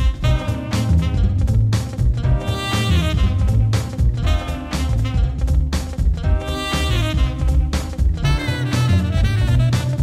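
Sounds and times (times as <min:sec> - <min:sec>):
swing jazz music: 0:00.0 - 0:10.0.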